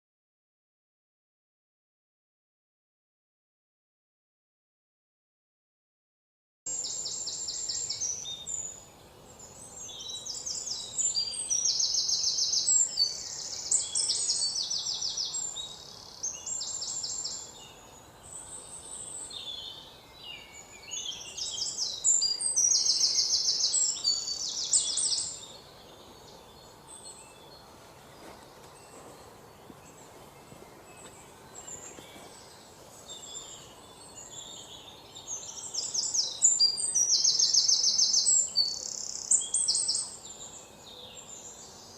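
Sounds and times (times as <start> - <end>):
songbirds singing: 6.7 - 41.9.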